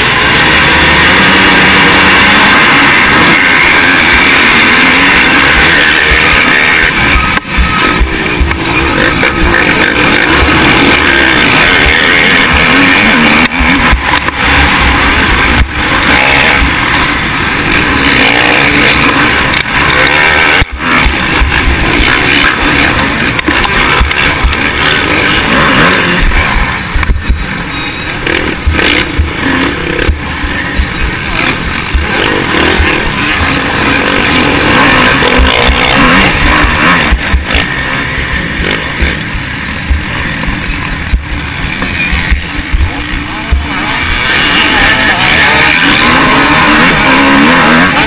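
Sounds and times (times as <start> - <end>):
motocross engine revving: 0.0 - 48.0.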